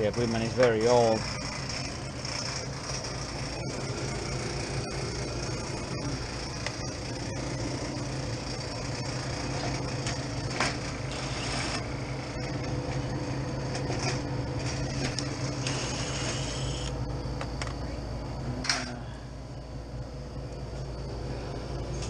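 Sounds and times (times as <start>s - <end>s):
freezer unit fan hum: 0.0s - 22.0s.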